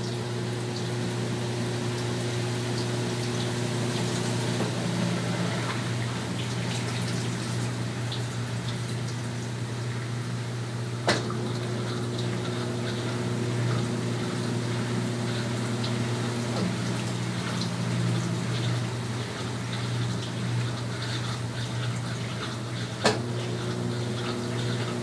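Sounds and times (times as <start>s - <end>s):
motor hum: 0.0s - 25.0s
water moving in washing machine: 0.0s - 25.0s.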